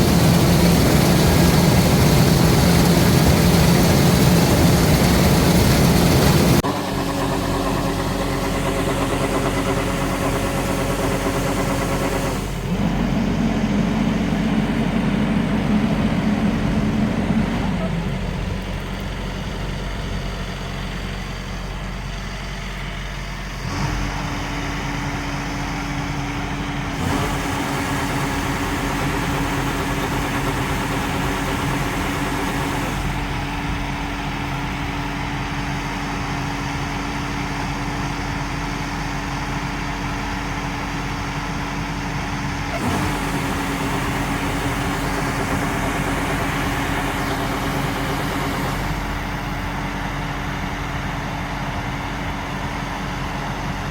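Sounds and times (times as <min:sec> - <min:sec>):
steady whine: 0:00.0 - 0:20.4, 0:24.2 - 0:51.9
combine harvester engine drone: 0:00.0 - 0:53.9.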